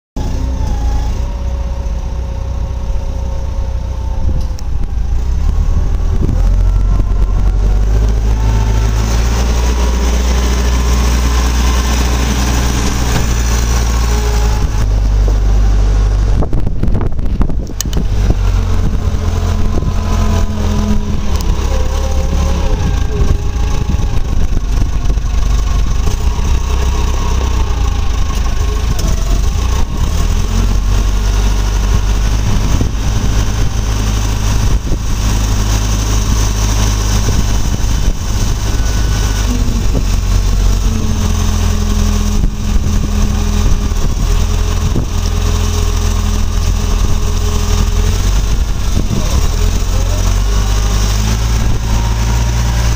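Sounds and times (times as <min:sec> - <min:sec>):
wheel loader diesel engine: 0:00.2 - 0:52.9.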